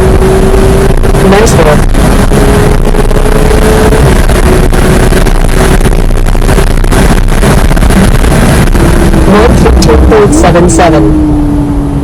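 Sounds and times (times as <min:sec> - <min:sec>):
car engine at speed: 0:00.0 - 0:12.0
road and wind noise: 0:00.0 - 0:12.0.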